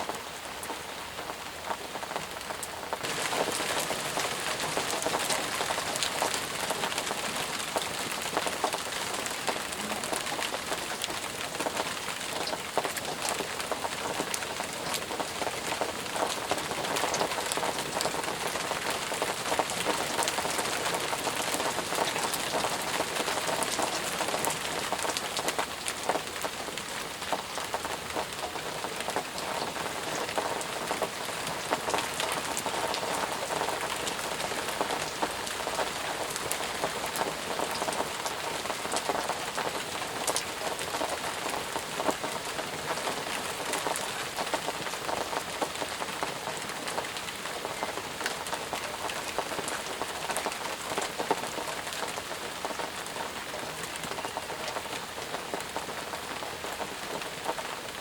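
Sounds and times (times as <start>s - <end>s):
heavy rain falling: 0.0s - 58.0s
raindrops pattering on surfaces: 0.0s - 58.0s.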